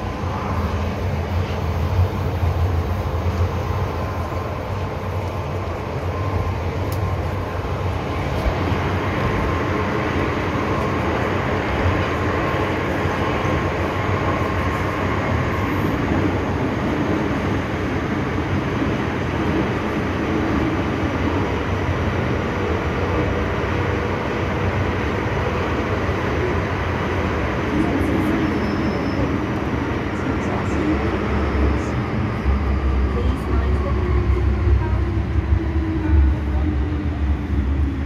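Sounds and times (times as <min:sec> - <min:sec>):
train carriage rumble: 0:00.0 - 0:38.0.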